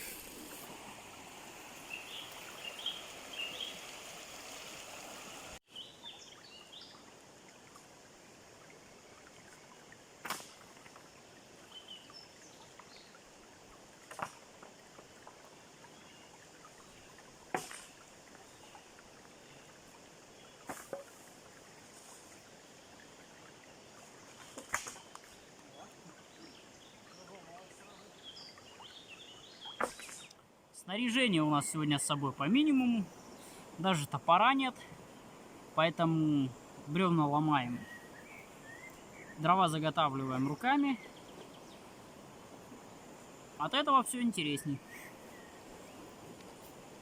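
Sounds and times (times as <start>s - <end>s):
forest ambience: 0.0s - 47.0s.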